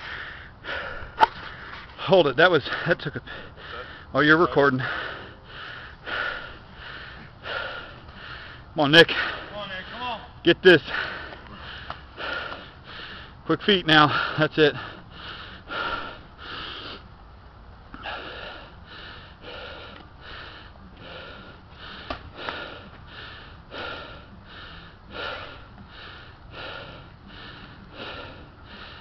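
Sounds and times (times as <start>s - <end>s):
person breathing heavily: 0.0s - 17.1s, 17.9s - 29.0s.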